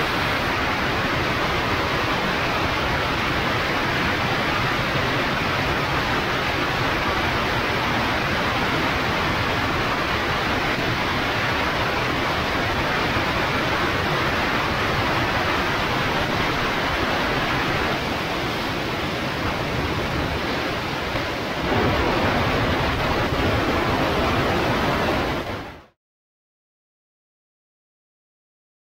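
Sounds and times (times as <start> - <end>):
rushing wind noise: 0.0 - 25.9.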